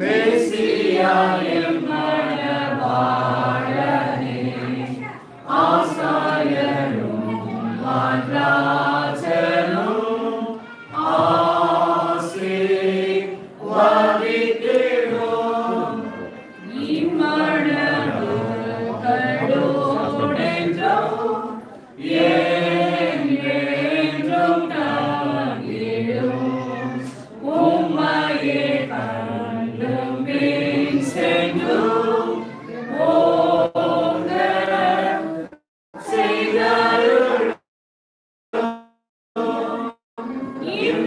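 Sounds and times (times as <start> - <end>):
group singing without instruments: 0.0 - 37.7, 38.6 - 41.0.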